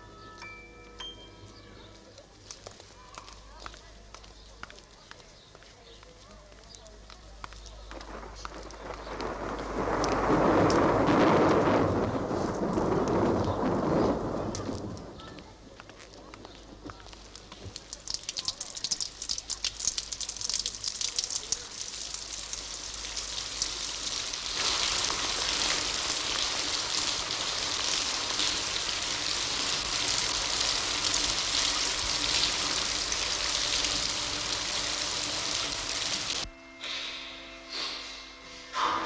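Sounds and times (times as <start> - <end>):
rain falling: 1.9 - 5.2, 6.6 - 36.5.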